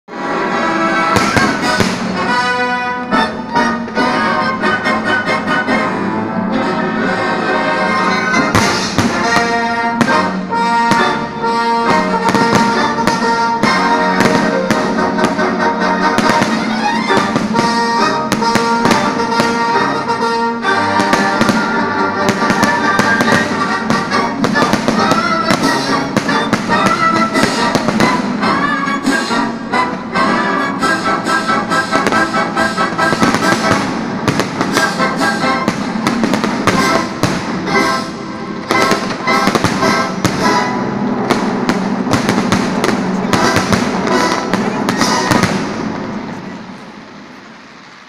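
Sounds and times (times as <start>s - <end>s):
fireworks bursting with bangs: 0.1s - 5.9s, 8.2s - 48.0s
loud instrumental music: 0.1s - 45.9s.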